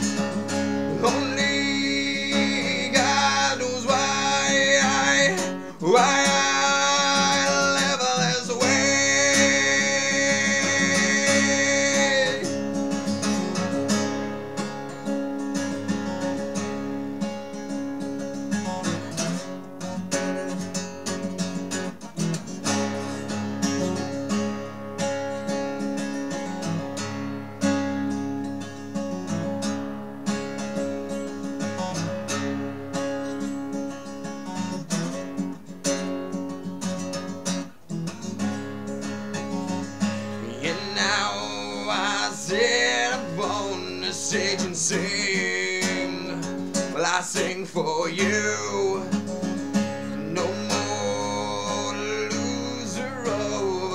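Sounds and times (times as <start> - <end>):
acoustic guitar strumming: 0.0 - 53.9.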